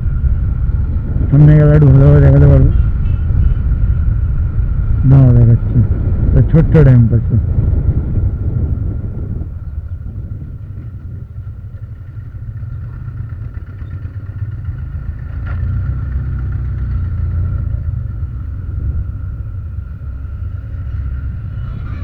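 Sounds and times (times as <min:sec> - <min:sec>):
motorcycle rumble: 0:00.0 - 0:22.0.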